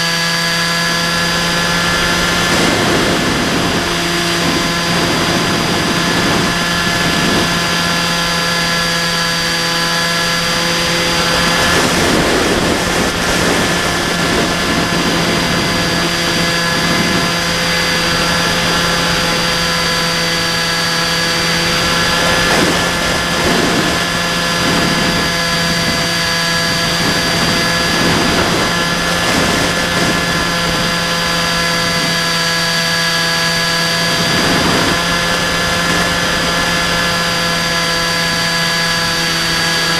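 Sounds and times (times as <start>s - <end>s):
electric motor propeller whine: 0.0s - 39.9s
rushing air noise: 0.2s - 39.9s.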